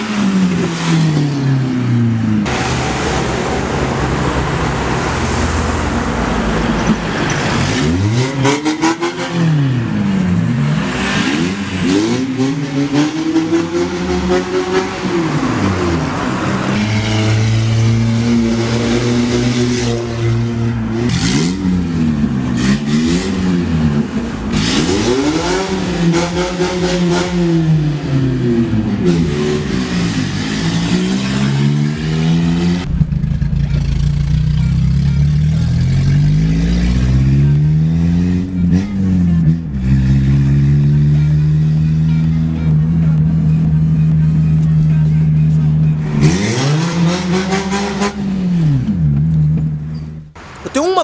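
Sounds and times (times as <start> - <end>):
loud car engine revving: 0.0 - 50.5.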